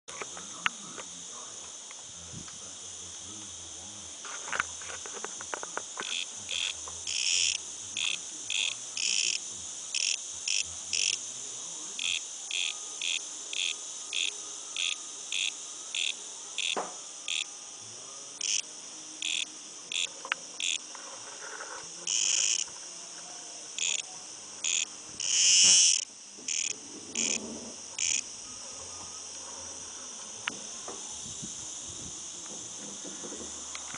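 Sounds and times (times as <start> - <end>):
cicada buzzing pulses: 0.1 - 33.9
steady high-pitched hiss: 0.1 - 33.9.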